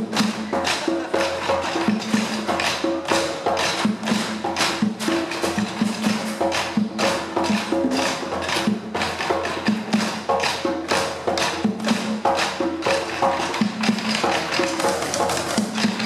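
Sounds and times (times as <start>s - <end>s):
sticks drumming on wooden chairs: 0.0s - 16.0s.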